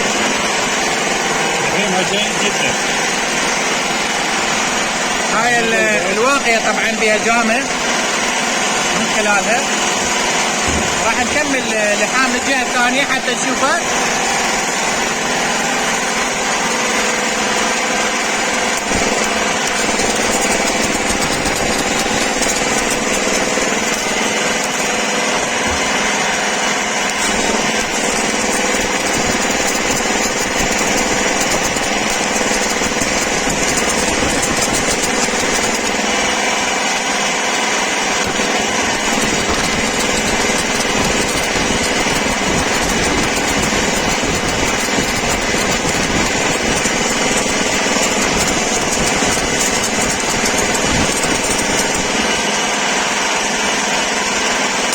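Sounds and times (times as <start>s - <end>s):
generator engine running: 0.0s - 54.9s
welding arc crackling: 0.0s - 54.9s.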